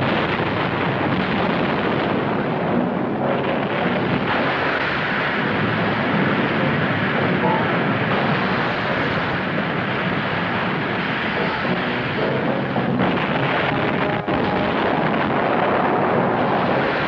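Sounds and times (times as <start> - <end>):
roar of rumbling explosions: 0.0 - 17.0.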